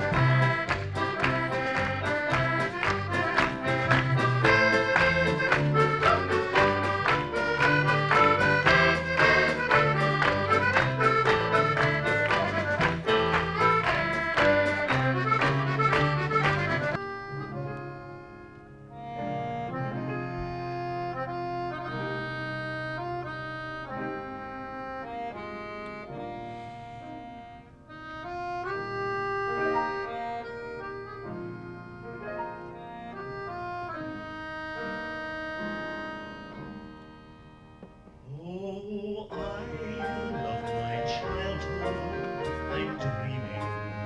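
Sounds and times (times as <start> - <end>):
accordion playing slow melody: 0.0 - 38.5, 39.3 - 44.0.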